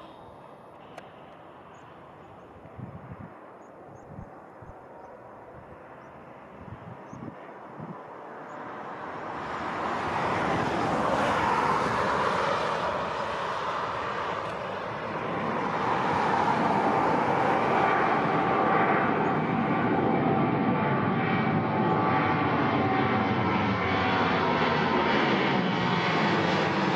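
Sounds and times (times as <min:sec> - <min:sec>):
jet engine rumble with whine: 0:00.0 - 0:26.9.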